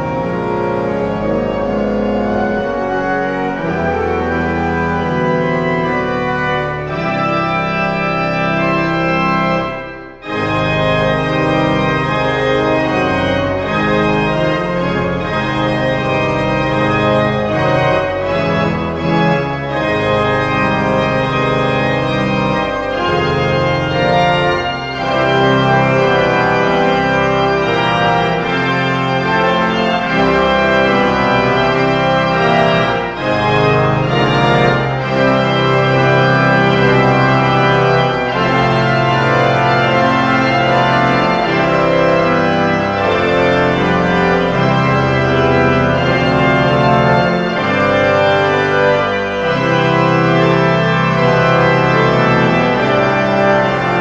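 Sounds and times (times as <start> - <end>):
pipe organ chords: 0.0 - 54.0.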